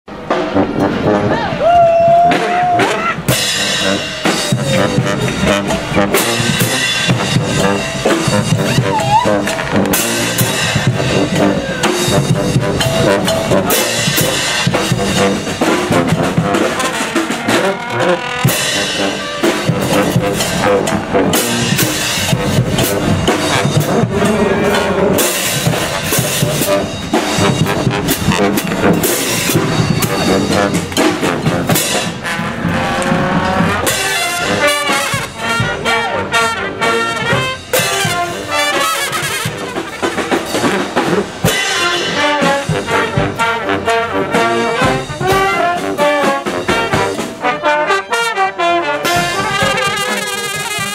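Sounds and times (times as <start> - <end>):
marching drums and cymbals: 0.1 - 50.9
trombones and trumpets: 0.1 - 50.9.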